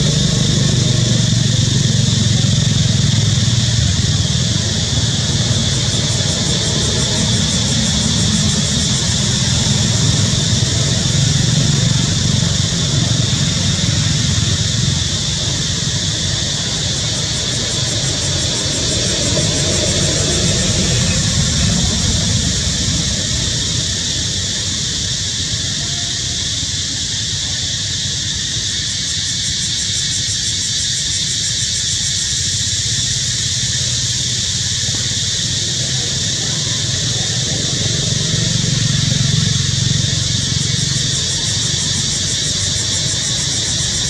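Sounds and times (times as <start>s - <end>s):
high-pitched insect drone: 0.0s - 44.0s
passing traffic rumble: 0.0s - 44.0s.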